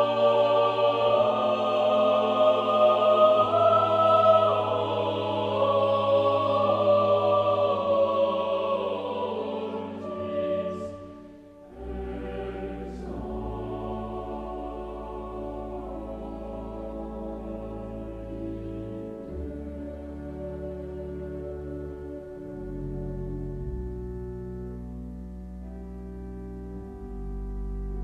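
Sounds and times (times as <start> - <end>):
ambient music with low drone: 0.0 - 28.0
choral voices holding chords: 0.0 - 28.0.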